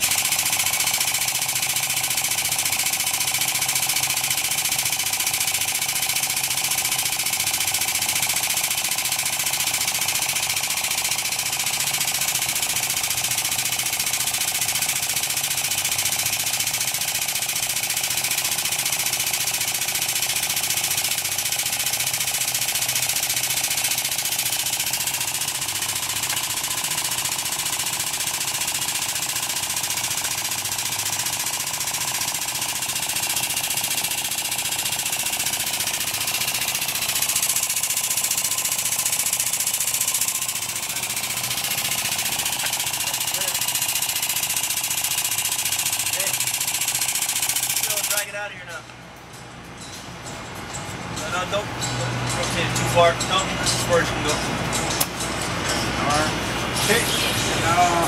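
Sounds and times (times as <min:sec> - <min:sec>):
pneumatic equipment chattering: 0:00.0 - 0:48.4.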